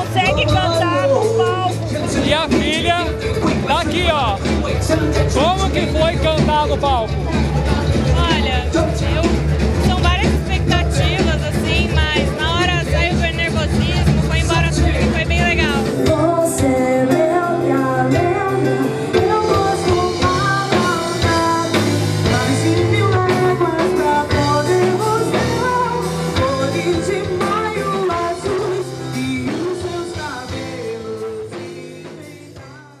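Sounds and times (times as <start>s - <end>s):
woman singing: 0.0s - 1.9s, 7.8s - 33.0s
live band playing: 0.0s - 33.0s.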